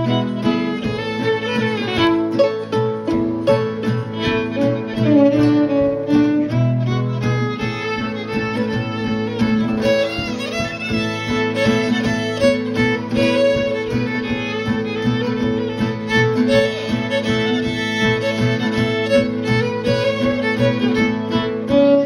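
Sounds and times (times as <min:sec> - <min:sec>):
fiddle playing a waltz: 0:00.0 - 0:22.0
rhythmic accompaniment: 0:00.0 - 0:22.0.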